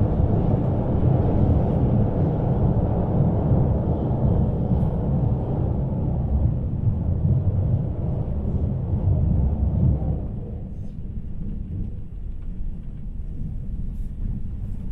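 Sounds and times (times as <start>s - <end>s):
train rumbling over steel bridge: 0.0s - 14.9s
train running noise: 0.0s - 14.9s.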